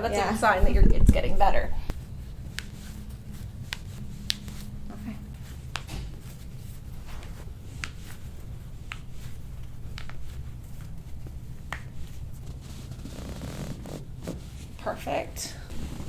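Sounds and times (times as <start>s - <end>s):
low steady room hum: 0.0s - 16.0s
rustling of skin and clothing: 0.0s - 16.0s.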